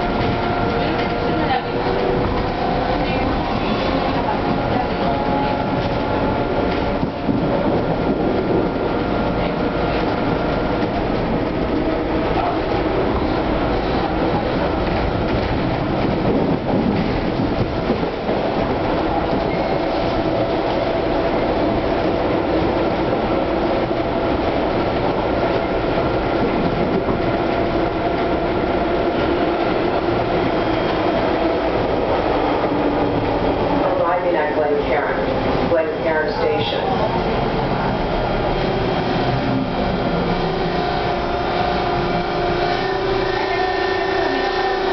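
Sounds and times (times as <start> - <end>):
subway wheels rumbling on rail: 0.0 - 44.9.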